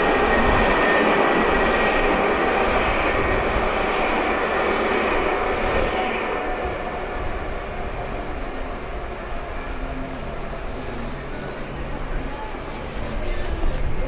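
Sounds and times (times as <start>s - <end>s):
tram wheels on rails: 0.0s - 14.0s.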